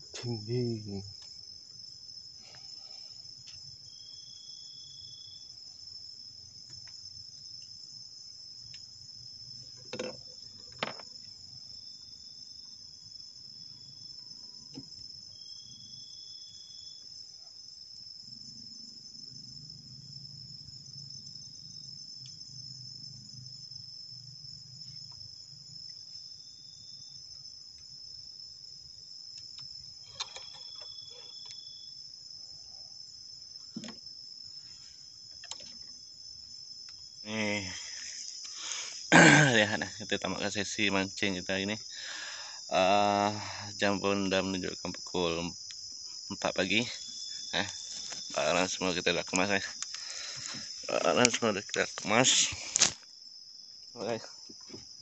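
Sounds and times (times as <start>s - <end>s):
night insects chirring: 0.0s - 55.0s.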